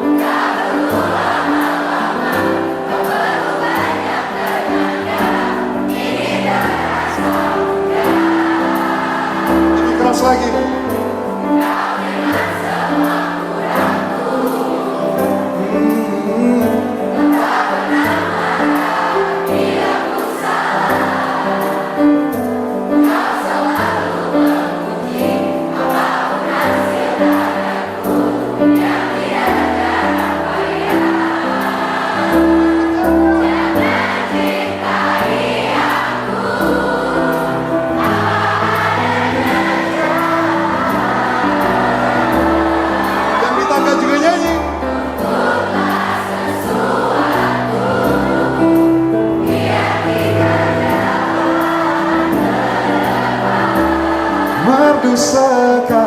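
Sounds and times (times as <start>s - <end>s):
crowd singing along: 0.0s - 56.0s
live band playing: 0.0s - 56.0s.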